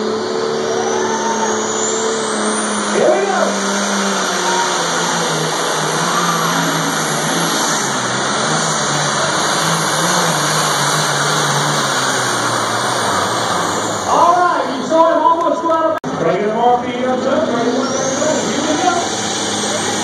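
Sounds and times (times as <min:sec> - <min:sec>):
engine running at high revs: 0:00.0 - 0:20.0.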